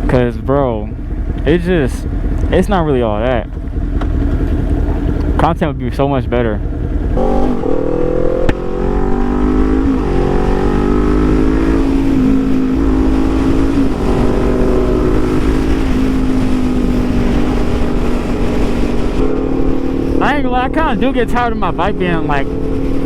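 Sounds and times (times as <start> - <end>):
low wind rumble: 0.0 - 23.0
motorcycle engine accelerating: 0.0 - 23.0.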